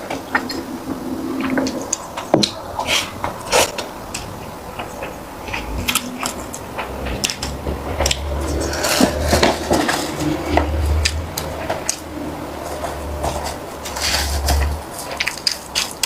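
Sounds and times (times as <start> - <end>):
chewing sticky rice cake: 0.0 - 16.0.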